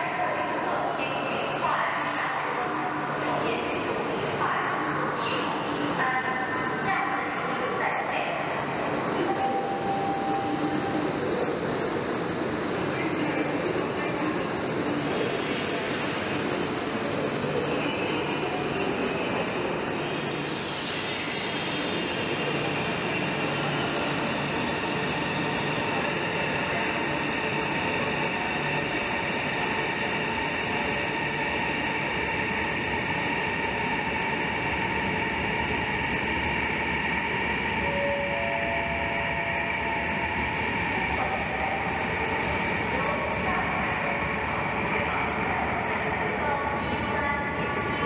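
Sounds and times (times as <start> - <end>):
electric train whine and rumble: 0.0 - 48.0.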